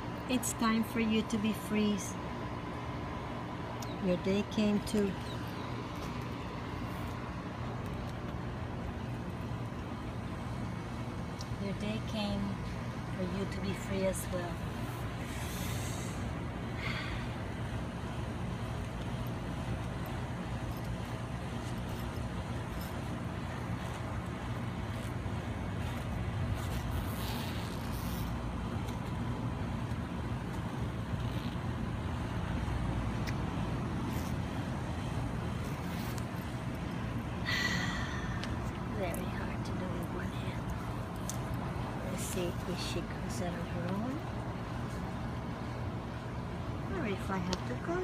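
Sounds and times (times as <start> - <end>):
faint hum: 0.0 - 48.0
low outdoor rumble: 0.0 - 48.0.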